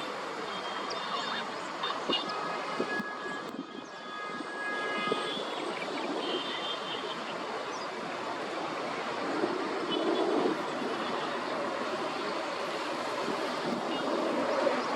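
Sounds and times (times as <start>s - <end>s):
steady rushing noise: 1.0s - 14.9s.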